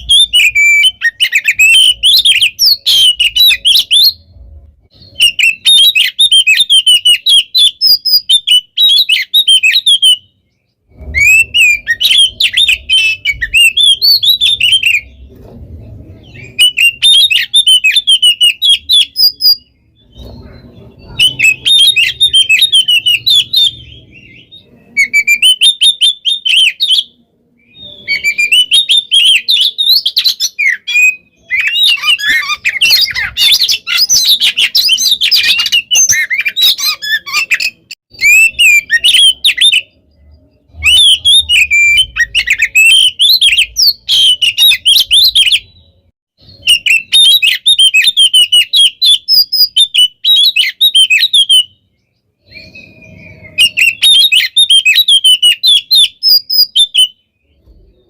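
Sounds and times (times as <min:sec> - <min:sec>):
songbird singing whistles and chatter: 0:00.0 - 0:58.0.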